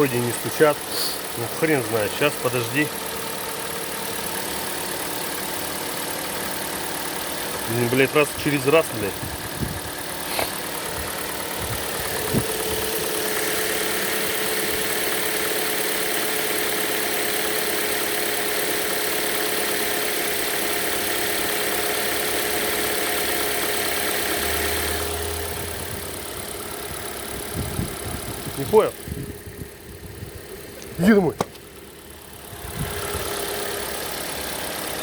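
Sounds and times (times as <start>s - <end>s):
engine click: 0.0s - 23.6s, 25.6s - 35.0s
car engine idling: 0.0s - 35.0s.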